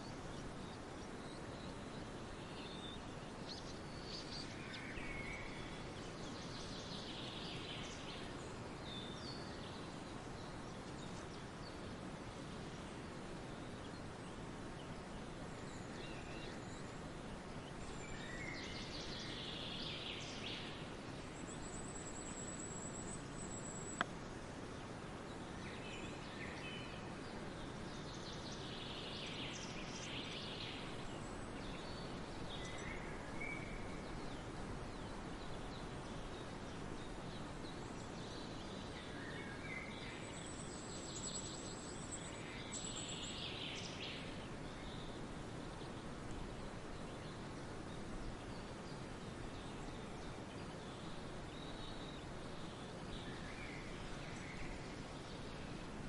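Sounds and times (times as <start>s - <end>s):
birdsong: 0.0s - 56.0s
steady background hiss: 0.0s - 56.0s.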